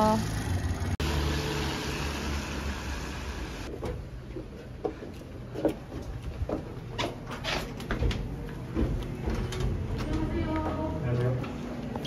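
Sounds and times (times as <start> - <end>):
low traffic hum: 0.0 - 12.0.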